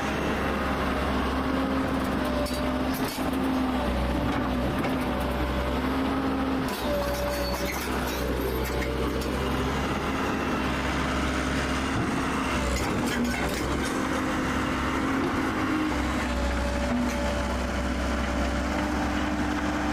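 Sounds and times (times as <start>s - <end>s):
heavy engine rumbling: 0.0s - 19.9s.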